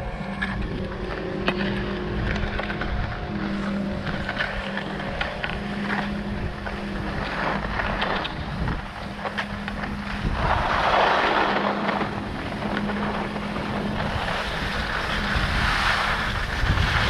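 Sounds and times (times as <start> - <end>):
skis scraping over snow: 0.0 - 17.0
steady low hum: 0.0 - 17.0
wind on microphone: 0.0 - 17.0.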